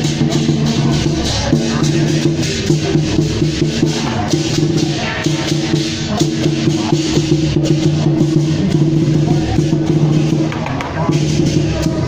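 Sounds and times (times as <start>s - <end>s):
drums and cymbals beating: 0.0s - 12.0s.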